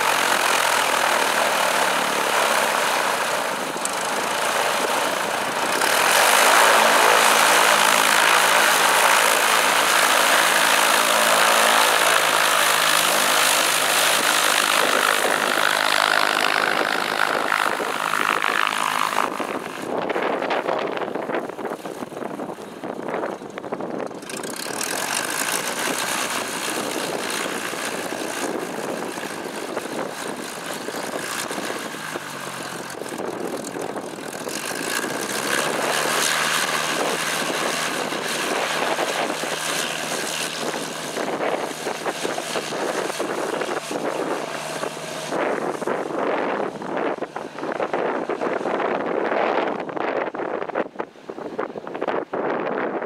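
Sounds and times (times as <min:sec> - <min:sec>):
propeller plane engine running: 0:00.0 - 0:53.0.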